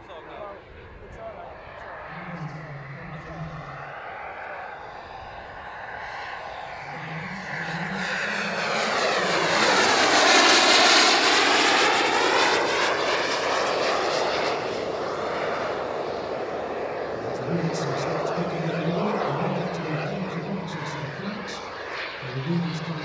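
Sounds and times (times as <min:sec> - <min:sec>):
model jet turbine whine: 0:00.0 - 0:23.0.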